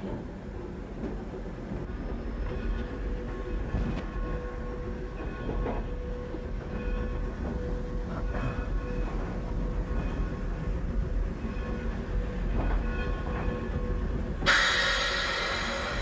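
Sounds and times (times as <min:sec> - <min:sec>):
steam locomotive rumble and hiss: 0:00.0 - 0:16.0.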